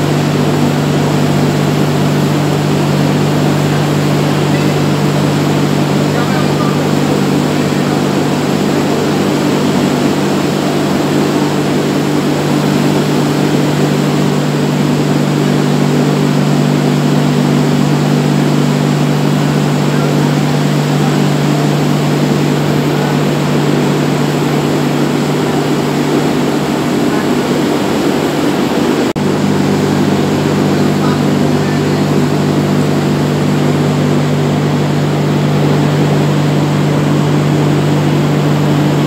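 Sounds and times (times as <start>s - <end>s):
industrial machinery drone: 0.0s - 39.0s.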